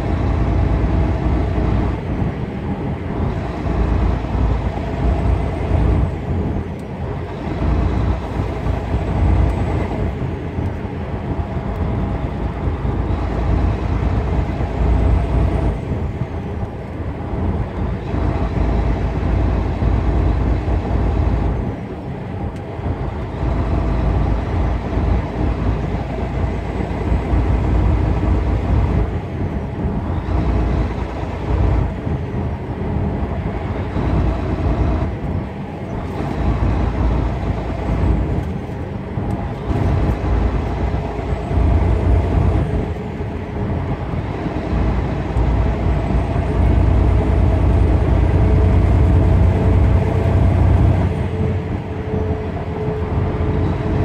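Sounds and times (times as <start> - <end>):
road noise: 0.0 - 54.0
truck diesel engine drone: 0.0 - 54.0.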